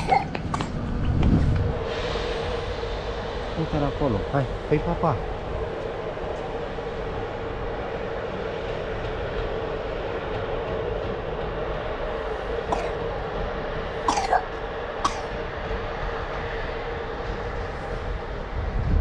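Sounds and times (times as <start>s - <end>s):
electric locomotive humming: 0.0s - 19.0s.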